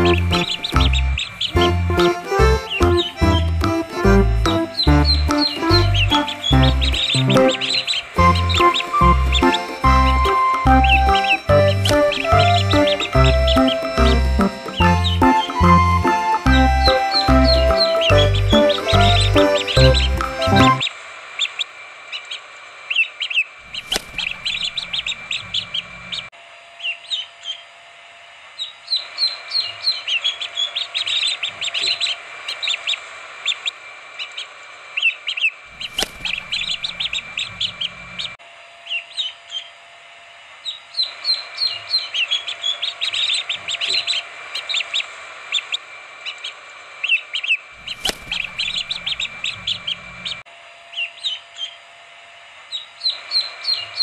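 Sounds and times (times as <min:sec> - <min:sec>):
chicks cheeping: 0:00.0 - 0:27.7, 0:28.6 - 0:39.8, 0:40.6 - 0:51.9, 0:52.7 - 0:54.0.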